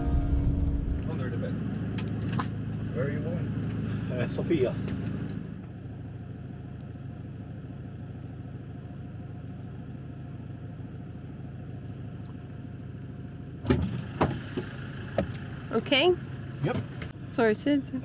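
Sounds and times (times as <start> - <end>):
motorhome engine idling: 0.0 - 18.0.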